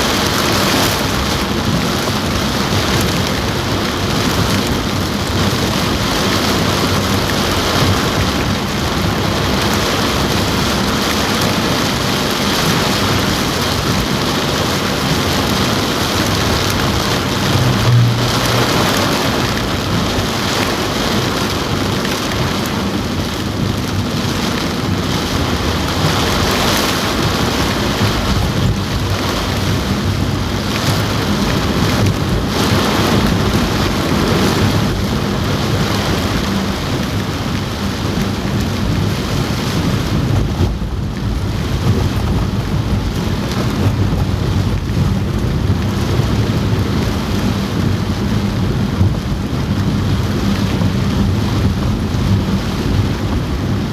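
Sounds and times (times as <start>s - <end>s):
heavy rain drumming on car roof: 0.0s - 53.9s
low rumble: 0.0s - 53.9s.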